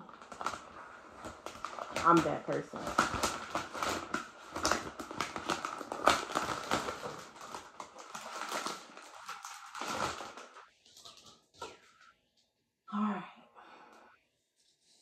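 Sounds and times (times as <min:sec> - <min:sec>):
packaging crinkling: 0:00.0 - 0:12.1.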